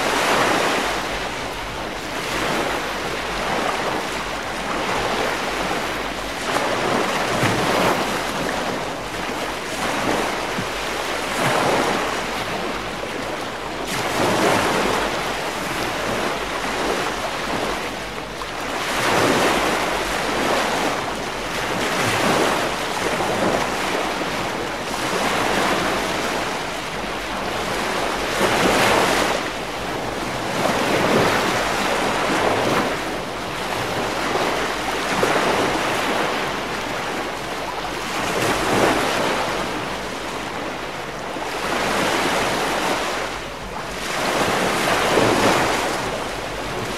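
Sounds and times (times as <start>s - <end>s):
ocean surf breaking: 0.0s - 46.9s.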